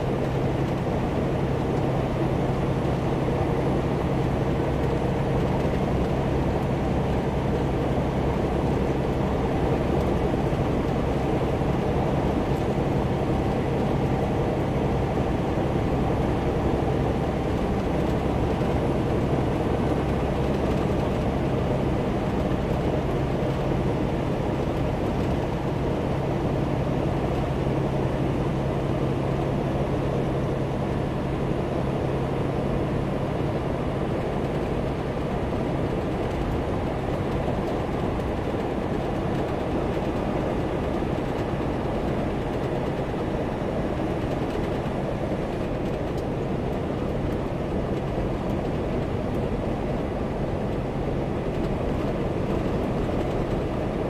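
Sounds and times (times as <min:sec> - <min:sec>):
truck engine drone: 0:00.0 - 0:54.0.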